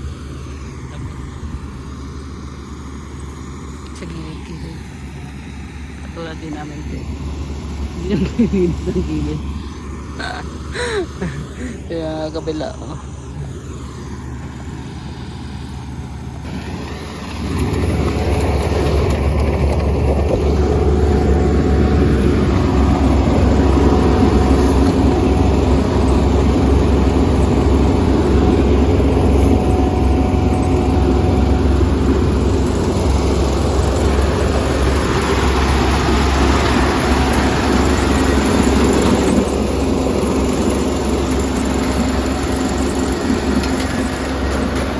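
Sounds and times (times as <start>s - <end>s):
combine harvester drone: 0.0s - 44.9s.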